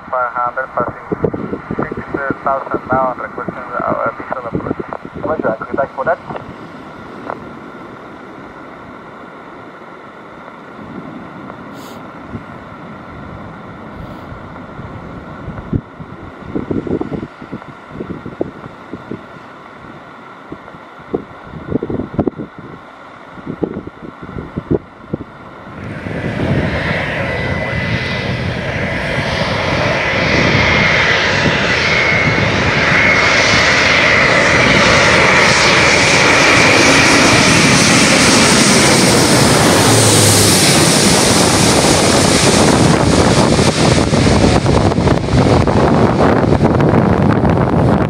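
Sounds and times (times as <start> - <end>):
jet airliner engines passing: 0.0 - 48.0
thin high engine whine: 0.0 - 48.0.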